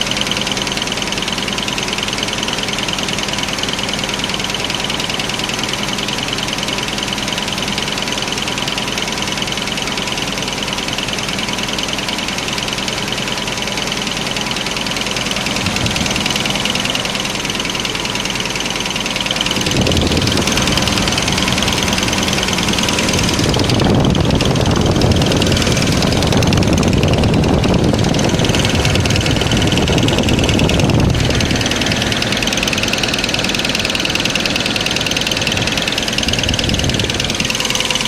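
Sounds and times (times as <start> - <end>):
car engine running with knock: 0.0 - 38.0.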